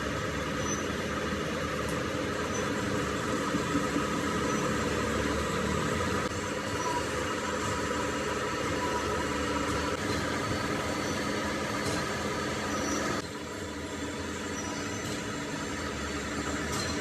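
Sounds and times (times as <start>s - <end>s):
workshop machinery droning: 0.0s - 17.0s.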